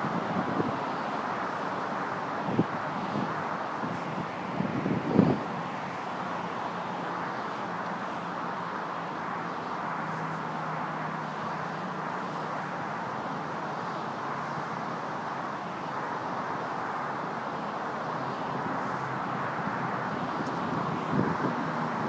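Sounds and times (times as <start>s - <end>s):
passing vehicle engine hum: 0.0s - 22.0s
street traffic noise: 0.0s - 22.0s.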